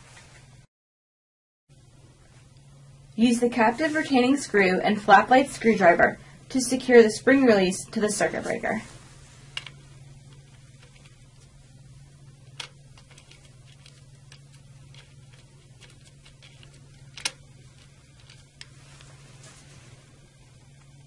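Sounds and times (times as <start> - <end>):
steady low hum: 1.7 - 21.0.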